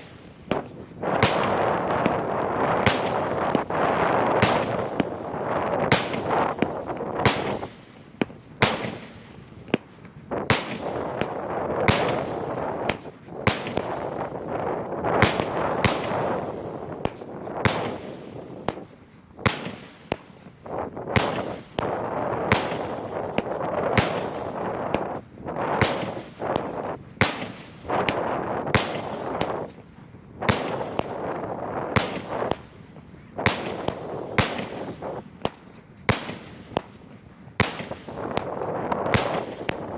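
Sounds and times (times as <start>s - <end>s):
firework bangs with echo: 0.0s - 39.9s.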